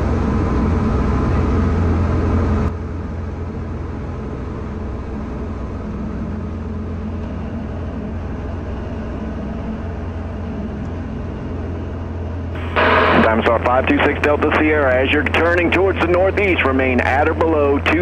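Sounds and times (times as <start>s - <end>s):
aircraft engine and propeller drone: 0.0s - 18.0s.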